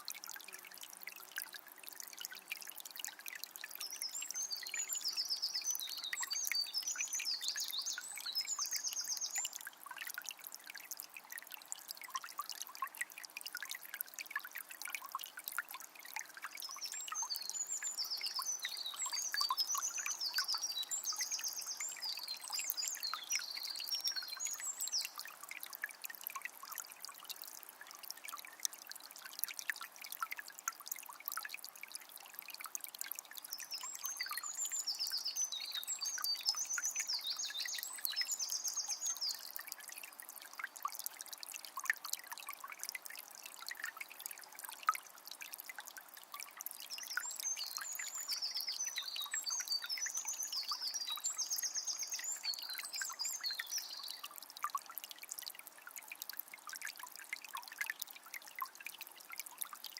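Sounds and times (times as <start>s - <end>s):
spring water trickling: 0.0s - 59.9s.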